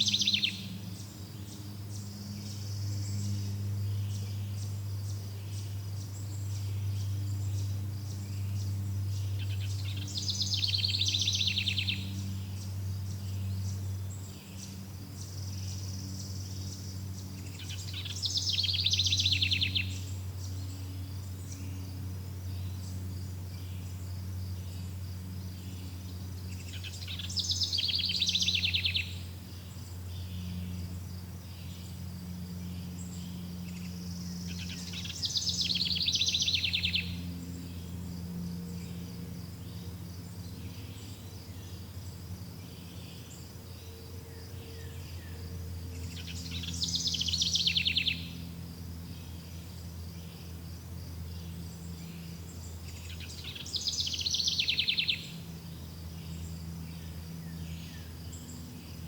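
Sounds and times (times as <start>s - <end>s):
insects chirping: 0.0s - 59.0s
low steady drone: 0.0s - 59.0s.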